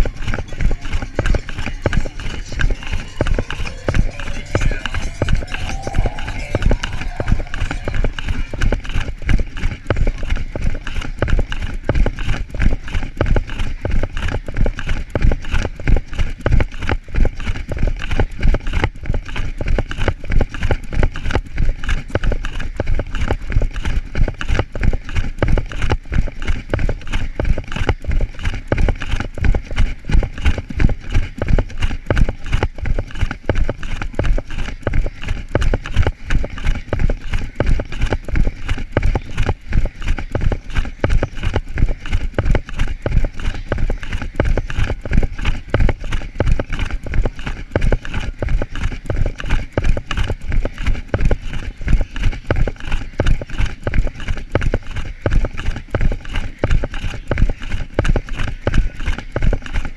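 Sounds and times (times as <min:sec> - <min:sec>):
running footfalls on grass: 0:00.0 - 0:59.9.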